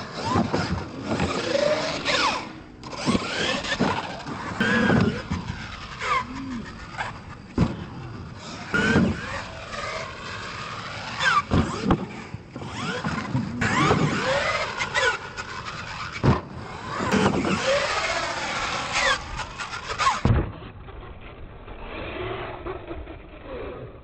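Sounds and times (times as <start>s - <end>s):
toy truck motor whining: 0.0s - 20.2s.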